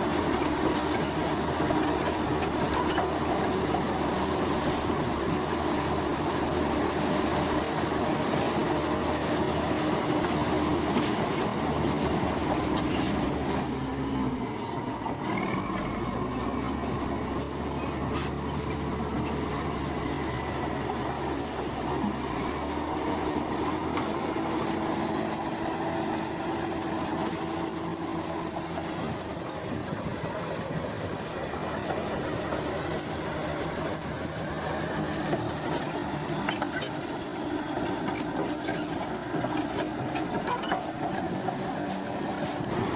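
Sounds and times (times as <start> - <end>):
diesel engine running: 0.0 - 42.9
steel tracks squealing and clanking: 0.0 - 42.9.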